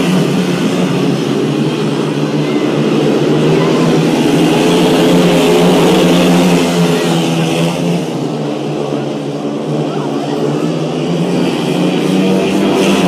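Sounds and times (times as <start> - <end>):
motorcycles racing: 0.0 - 13.0.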